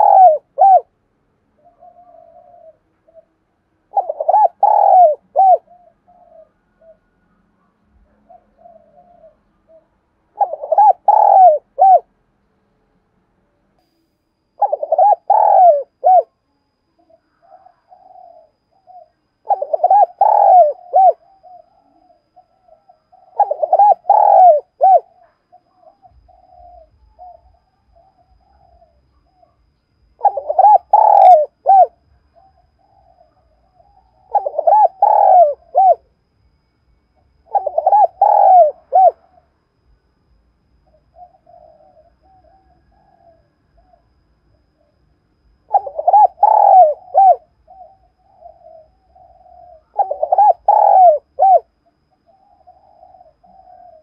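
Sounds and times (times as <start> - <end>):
dove cooing: 0.0 - 12.2, 14.5 - 36.2, 37.4 - 39.9, 40.7 - 54.0.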